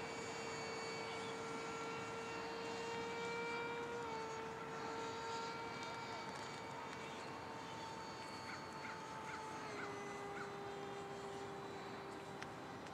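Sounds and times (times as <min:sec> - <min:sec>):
model jet fan whining: 0:00.0 - 0:12.9.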